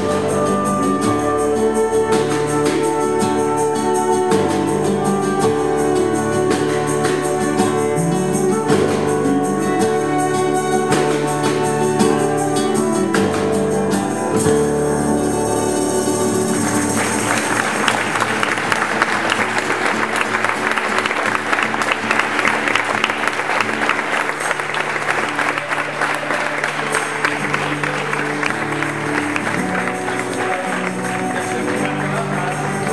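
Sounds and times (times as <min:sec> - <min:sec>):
audience applauding: 0:00.0 - 0:32.9
live band playing instrumental music: 0:00.0 - 0:32.9.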